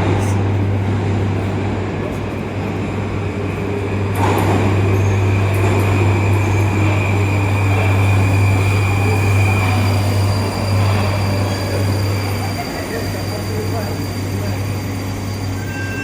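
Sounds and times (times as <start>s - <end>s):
metro train humming: 0.0s - 16.0s.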